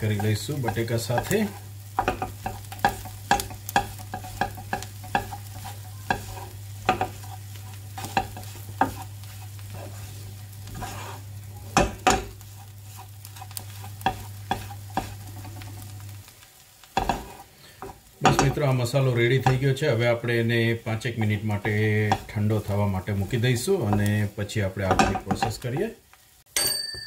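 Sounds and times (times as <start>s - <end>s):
spatula scraping frying pan: 0.0s - 26.0s
faint sizzle: 0.0s - 26.5s.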